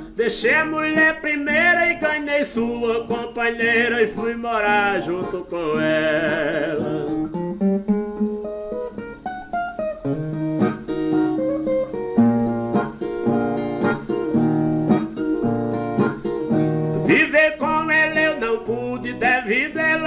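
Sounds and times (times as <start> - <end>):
ten-string guitar playing: 0.0 - 20.0.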